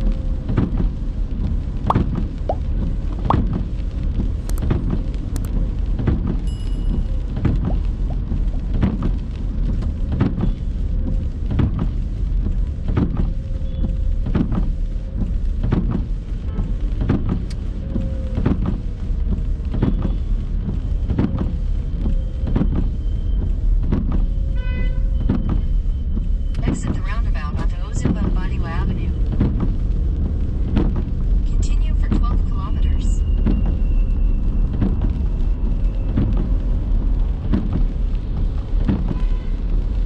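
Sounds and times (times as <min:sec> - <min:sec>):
rain: 0:00.0 - 0:40.0
road and engine rumble: 0:00.0 - 0:40.0
windscreen wipers knocking: 0:00.3 - 0:32.6, 0:33.3 - 0:40.0.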